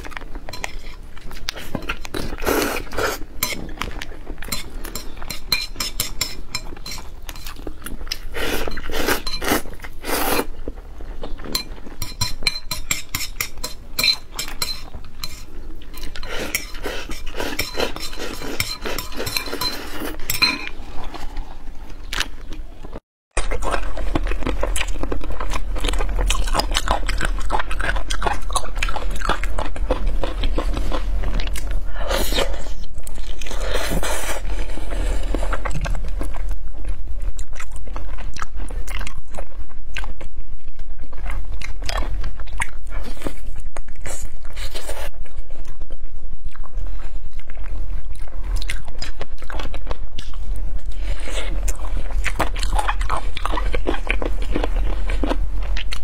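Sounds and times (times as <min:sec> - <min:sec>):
low steady hum: 0:00.0 - 0:56.0
wet chewing and crunching: 0:00.0 - 0:56.0.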